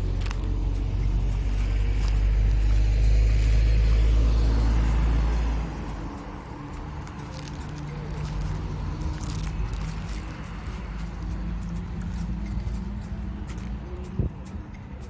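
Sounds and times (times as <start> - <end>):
vehicle passing on road: 0.0 - 15.0.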